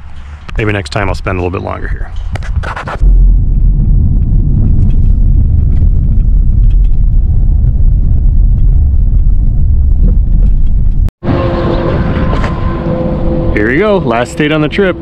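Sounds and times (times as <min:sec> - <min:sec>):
road and wind noise: 0:00.0 - 0:15.0
car driving at highway speed: 0:02.4 - 0:15.0.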